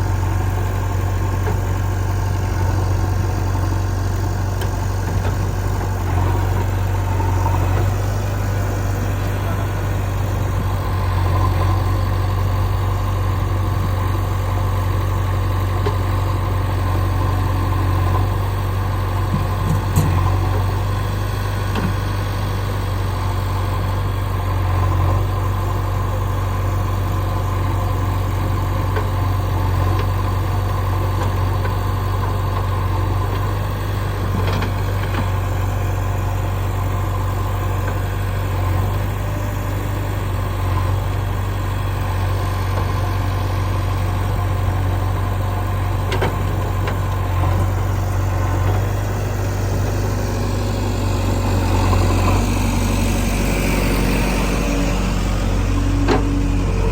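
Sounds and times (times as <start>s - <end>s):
diesel engine idling hum: 0.0s - 56.9s.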